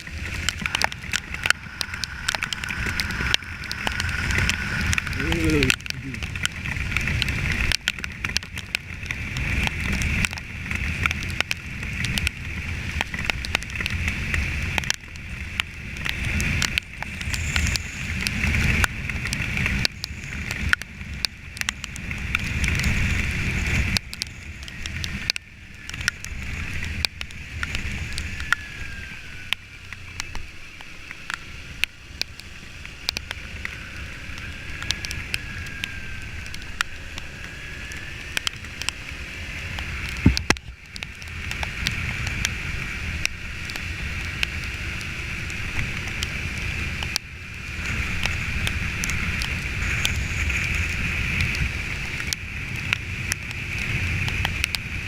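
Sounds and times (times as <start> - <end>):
wind buffeting on microphone: 0.0 - 30.1, 33.3 - 55.0
road noise: 0.0 - 55.0.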